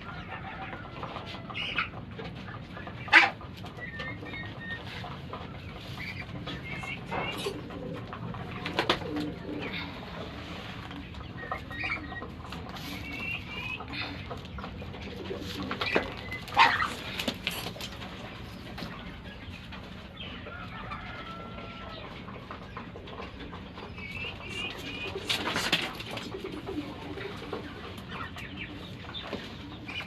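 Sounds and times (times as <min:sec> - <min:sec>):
birds calling and chirping: 0:00.0 - 0:30.0.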